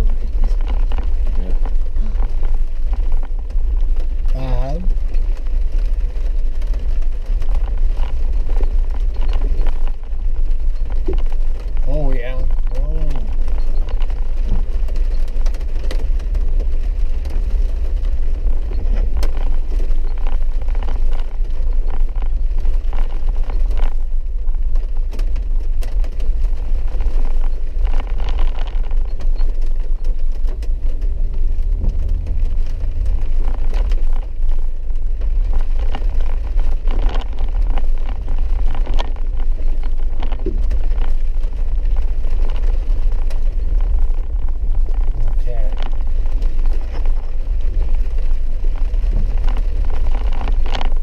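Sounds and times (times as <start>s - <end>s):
engine and tyres rumbling: 0.0s - 51.0s.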